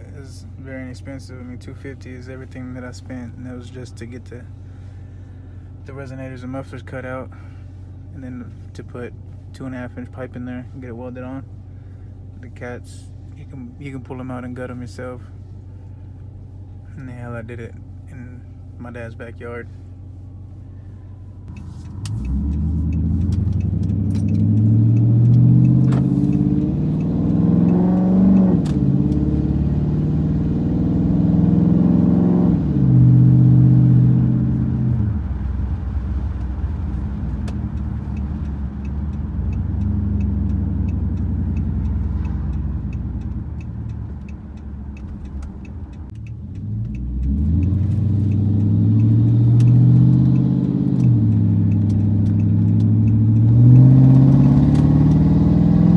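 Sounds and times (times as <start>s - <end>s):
car exhaust roaring under acceleration: 0.0s - 55.9s.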